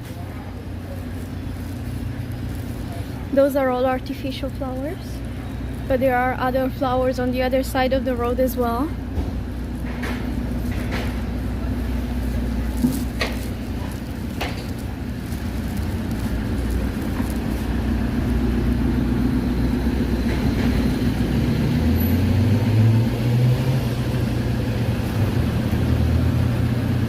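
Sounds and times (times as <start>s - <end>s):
vehicle engine low drone: 0.0s - 27.0s.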